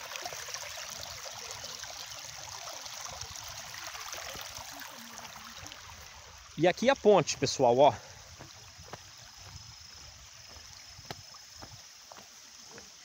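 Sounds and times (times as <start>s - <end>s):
water rushing down rocky slope: 0.0s - 13.0s.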